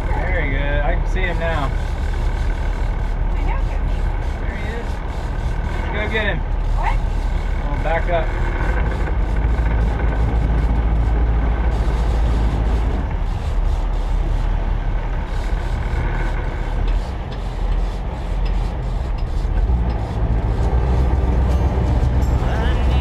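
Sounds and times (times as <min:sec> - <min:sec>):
boat diesel engines droning: 0:00.0 - 0:23.0
churning water wash: 0:00.0 - 0:23.0.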